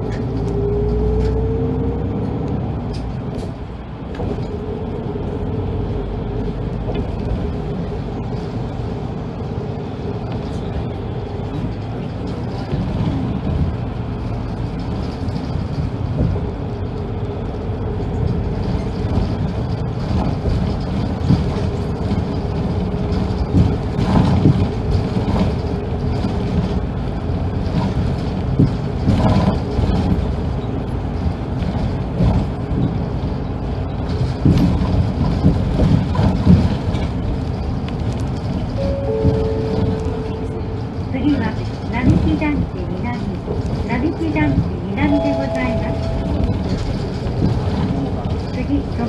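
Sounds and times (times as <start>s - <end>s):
bus body bumps and rattles: 0.0s - 49.0s
bus engine and road rumble: 0.0s - 49.0s.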